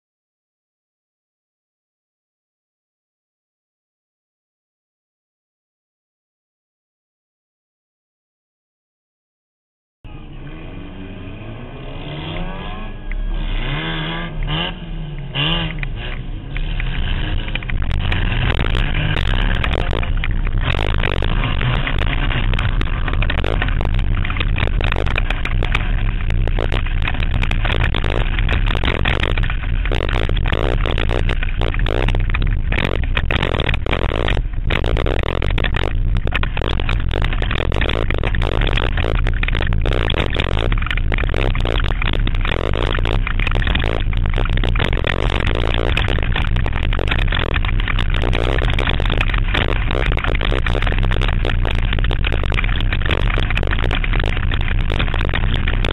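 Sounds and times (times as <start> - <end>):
race car engine revving: 10.1 - 55.9.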